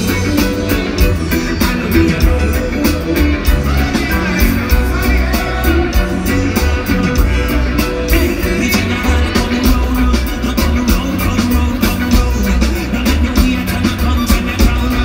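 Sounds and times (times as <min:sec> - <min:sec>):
live reggae band: 0:00.0 - 0:15.0.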